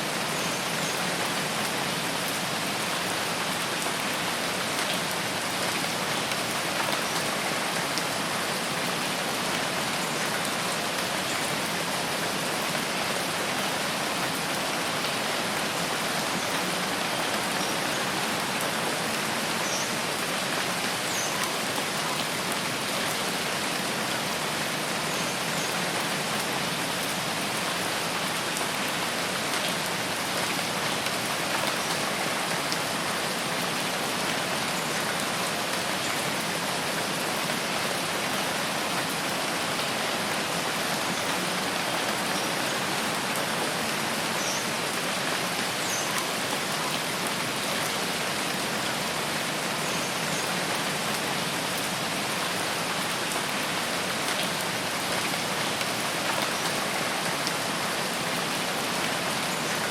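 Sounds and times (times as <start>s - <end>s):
rain falling on a forest: 0.0s - 59.9s.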